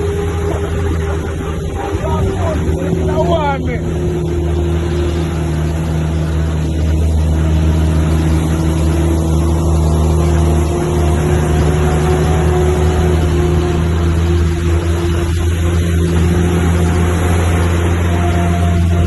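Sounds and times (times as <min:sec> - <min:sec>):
truck engine pulling uphill: 0:00.0 - 0:19.0.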